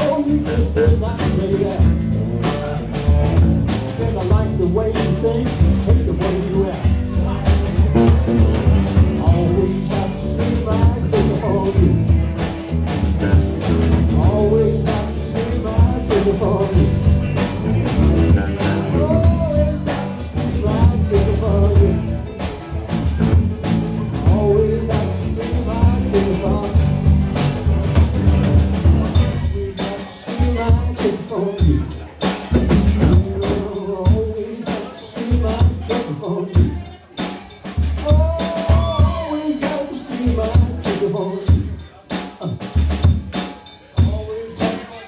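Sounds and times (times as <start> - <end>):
drum kit beat: 0.0 - 45.0
live band playing: 0.0 - 45.0.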